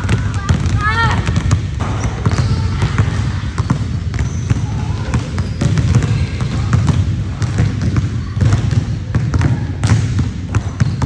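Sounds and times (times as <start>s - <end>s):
basketballs bouncing on gym floor: 0.0s - 11.0s.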